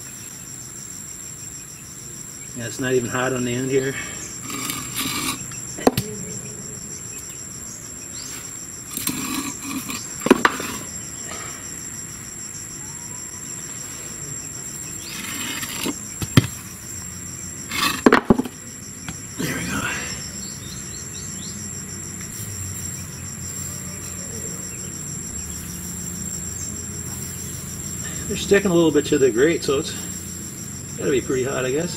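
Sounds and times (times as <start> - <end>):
insects chirring: 0.0 - 31.9.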